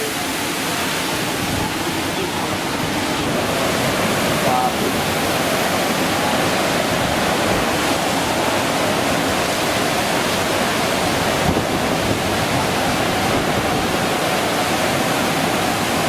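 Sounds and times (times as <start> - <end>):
water rushing in a storm: 0.0 - 16.0.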